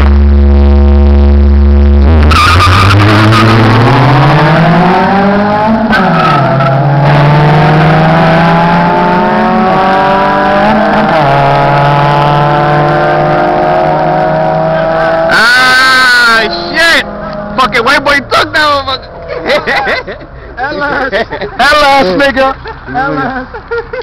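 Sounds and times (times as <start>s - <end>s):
car engines revving and accelerating: 0.0s - 24.0s.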